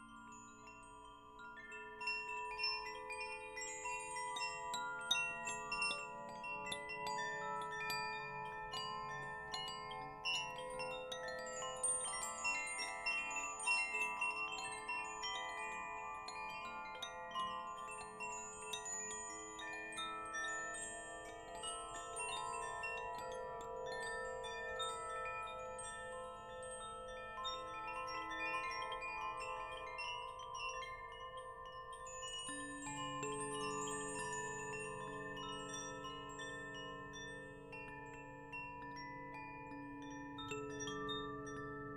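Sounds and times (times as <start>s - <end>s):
wind chimes ringing: 0.0s - 41.9s.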